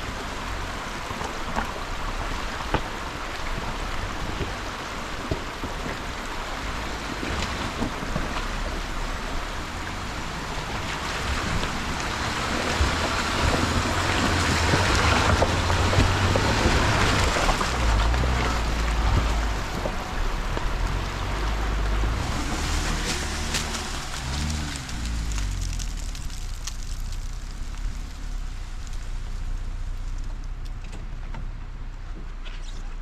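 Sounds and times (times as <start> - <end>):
tyres crunching on trail: 0.0 - 31.7
engine and drivetrain rumble: 0.0 - 33.0.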